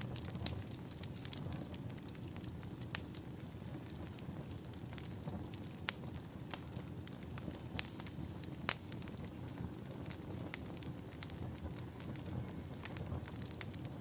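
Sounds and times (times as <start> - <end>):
fire burning rumble: 0.0 - 14.0.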